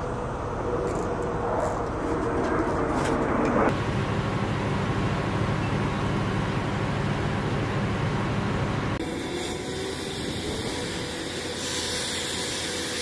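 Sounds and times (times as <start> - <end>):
ground machinery drone: 0.0 - 13.0.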